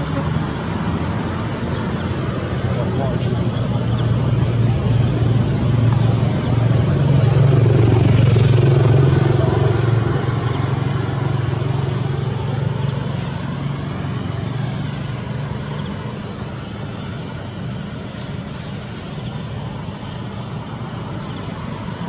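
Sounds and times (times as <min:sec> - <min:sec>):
road traffic noise: 0:00.0 - 0:22.0
vehicle engine hum: 0:00.0 - 0:22.0.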